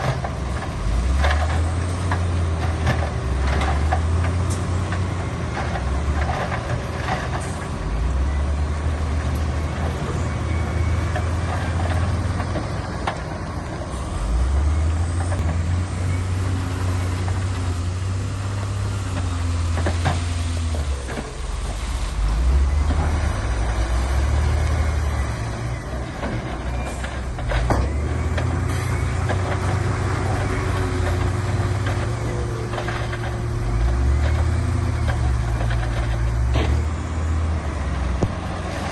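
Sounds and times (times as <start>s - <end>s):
diesel machinery engines revving: 0.0s - 38.9s.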